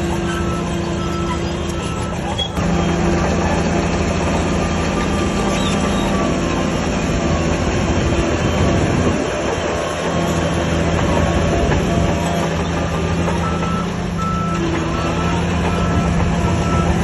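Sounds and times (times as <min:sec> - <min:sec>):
diesel engine droning: 0:00.0 - 0:17.0
steel tracks clanking and squealing: 0:00.0 - 0:17.0.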